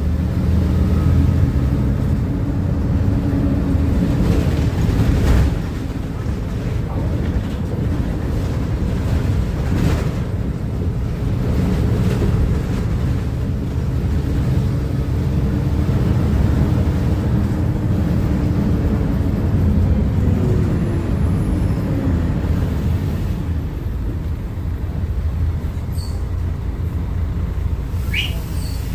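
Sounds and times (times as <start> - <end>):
bus diesel engine rumbling: 0.0 - 28.9.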